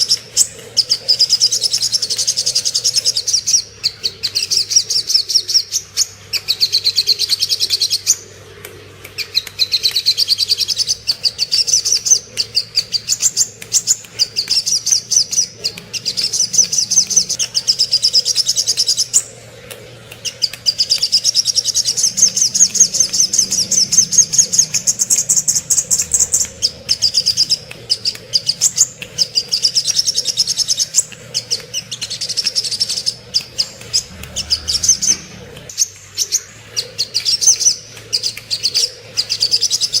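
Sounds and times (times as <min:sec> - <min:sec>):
bird song high chattering trills: 0:00.0 - 0:08.4, 0:09.2 - 0:40.0.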